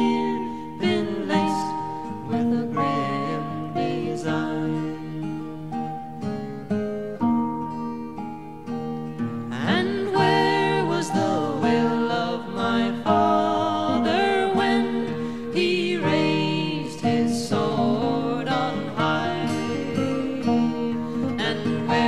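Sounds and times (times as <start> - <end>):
person singing long wavering notes: 0.0 - 7.1, 9.5 - 22.0
acoustic guitar: 0.0 - 22.0.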